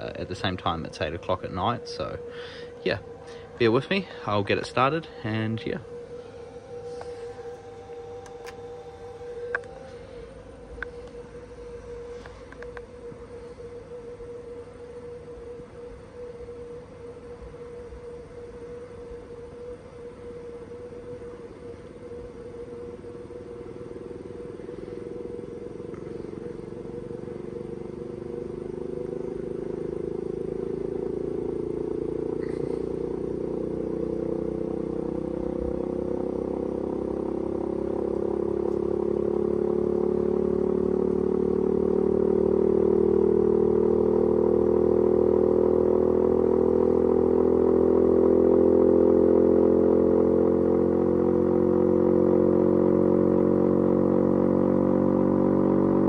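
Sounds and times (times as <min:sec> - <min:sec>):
electric siren winding up: 0:00.0 - 0:56.0.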